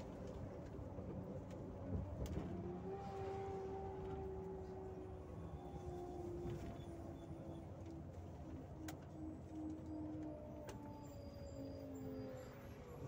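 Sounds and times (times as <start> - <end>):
bus engine and road rumble: 0.0 - 13.0
whining tone: 2.0 - 13.0.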